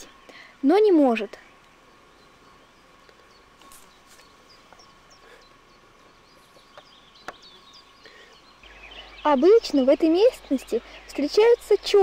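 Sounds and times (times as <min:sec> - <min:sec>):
faint steady hum: 0:00.0 - 0:12.0
small bird chirping: 0:00.0 - 0:12.0.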